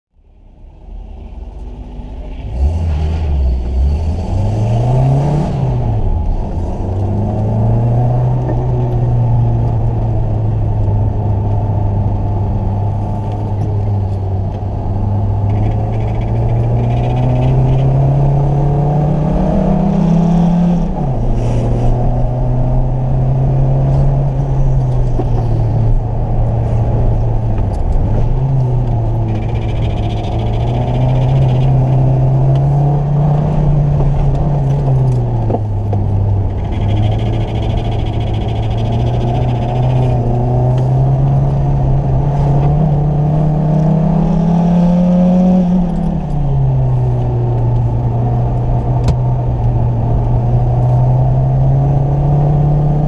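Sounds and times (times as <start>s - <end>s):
car engine revving: 1.3s - 53.0s.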